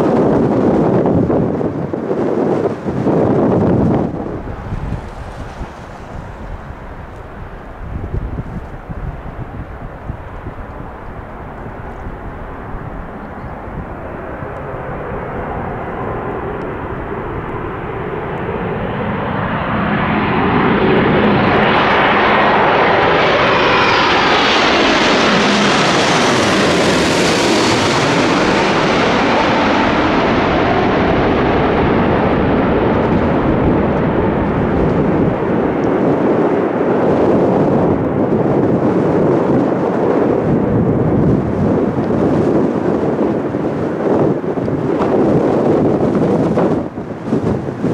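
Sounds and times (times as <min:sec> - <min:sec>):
jet airliner roar: 0:00.0 - 0:47.9.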